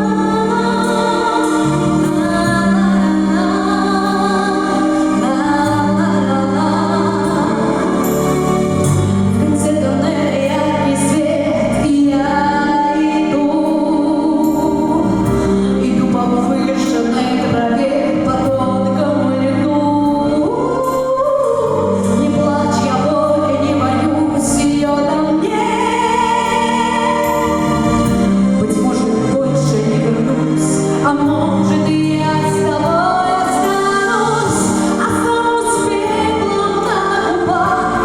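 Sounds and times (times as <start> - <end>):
instrumental backing track: 0.0 - 38.0
woman singing: 0.0 - 38.0.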